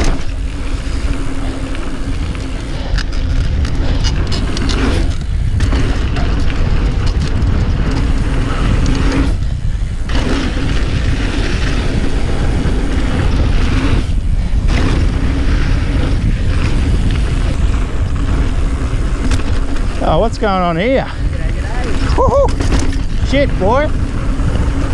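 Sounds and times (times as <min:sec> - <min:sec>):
steady low hum: 0:00.0 - 0:24.9
tyre and trail rumble: 0:00.0 - 0:24.9
wind buffeting microphone: 0:00.0 - 0:24.9.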